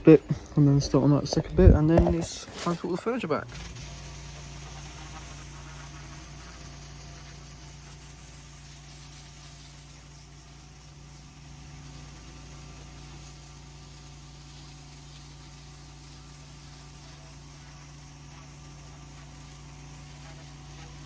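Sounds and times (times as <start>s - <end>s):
steady hiss: 2.2s - 21.0s
pressure washer engine running: 2.6s - 21.0s.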